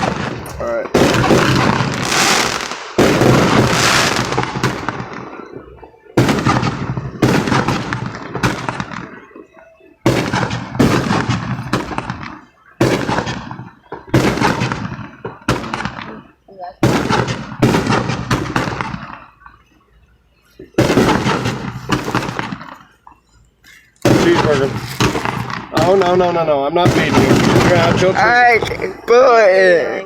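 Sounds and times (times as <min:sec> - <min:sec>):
fireworks bangs: 0:00.0 - 0:19.8, 0:20.4 - 0:30.0.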